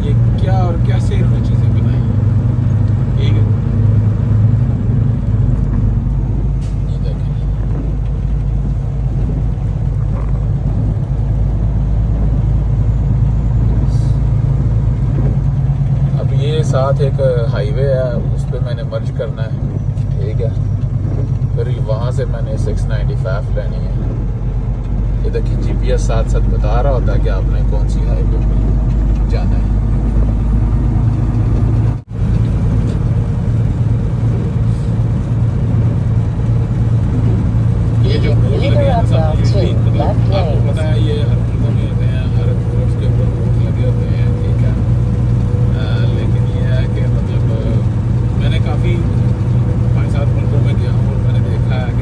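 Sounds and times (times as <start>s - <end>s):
road noise inside cab: 0.0s - 52.0s
truck diesel engine drone: 0.0s - 52.0s.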